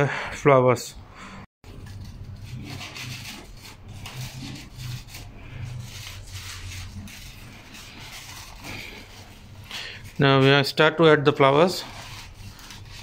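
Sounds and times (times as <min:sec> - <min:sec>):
crepe paper rustling: 0:01.7 - 0:13.0.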